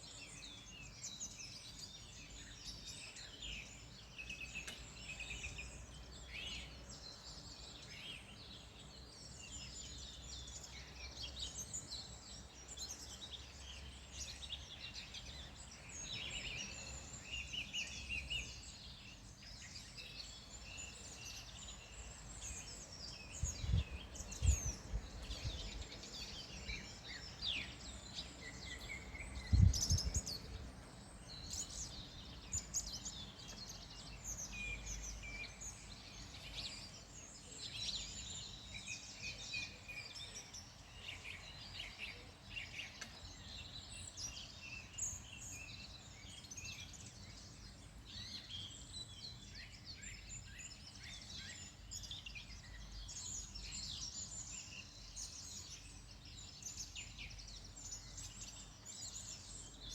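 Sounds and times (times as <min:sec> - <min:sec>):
birds chirping and singing: 0:00.2 - 0:59.9.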